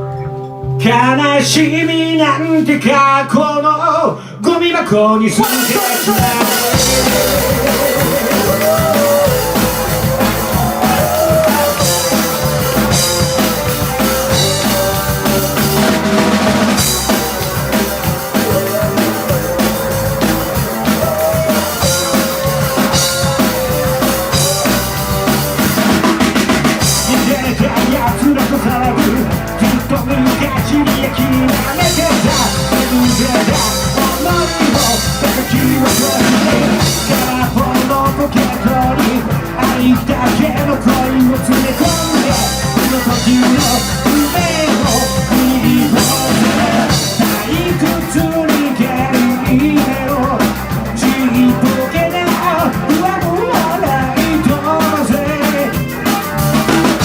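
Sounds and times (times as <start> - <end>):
rock band playing: 0.0 - 3.4, 4.2 - 57.0
drum kit beat: 5.4 - 57.0.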